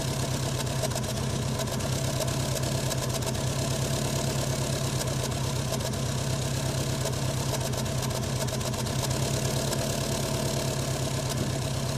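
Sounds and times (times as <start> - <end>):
car engine idling roughly: 0.0 - 11.9.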